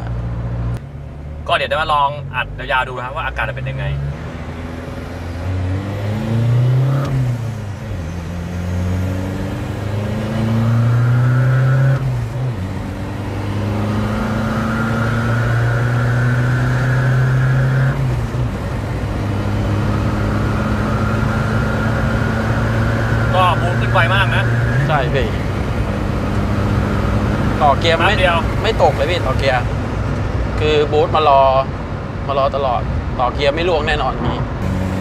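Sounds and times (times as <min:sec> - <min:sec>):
diesel engine revving under throttle: 0:00.6 - 0:32.1, 0:34.4 - 0:35.0.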